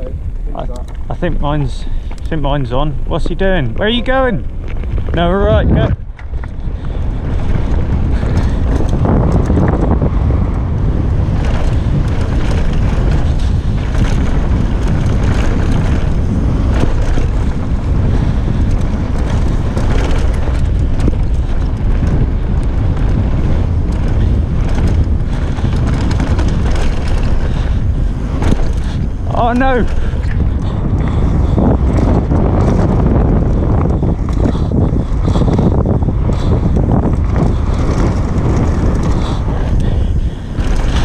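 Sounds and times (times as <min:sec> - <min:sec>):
bike knocks and rattles: 0:00.0 - 0:41.0
wind buffeting microphone: 0:00.0 - 0:41.0
tyres rolling on gravel: 0:00.6 - 0:41.0.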